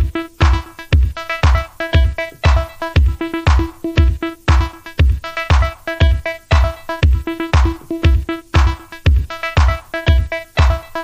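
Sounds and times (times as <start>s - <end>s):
electronic music: 0.0s - 11.0s
repeating synth notes: 0.0s - 11.0s
steady kick drum: 0.0s - 11.0s.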